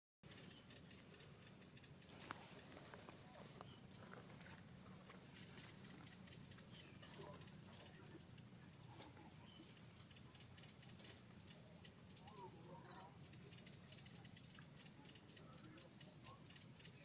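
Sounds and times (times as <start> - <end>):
faint wavering chirps: 0.2 - 17.0
steady high whine: 0.2 - 17.0.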